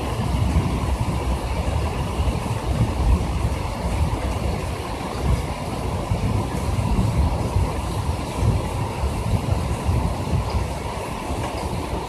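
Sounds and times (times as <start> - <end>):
heavy rain on a window ledge: 0.0 - 12.0.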